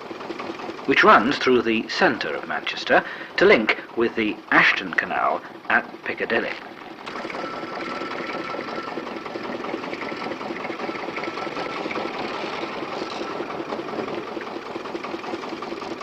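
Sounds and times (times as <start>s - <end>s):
small machine clattering: 0.0s - 16.0s.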